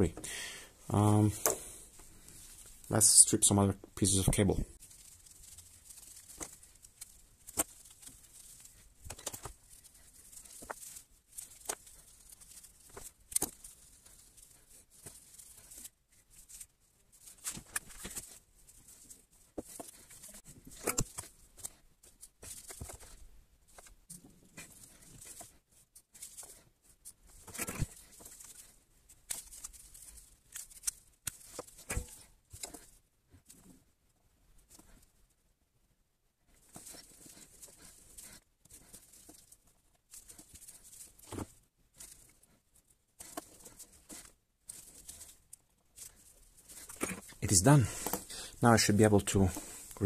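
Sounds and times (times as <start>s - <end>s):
rustling and scraping of wires: 0.0s - 35.4s, 36.4s - 50.0s.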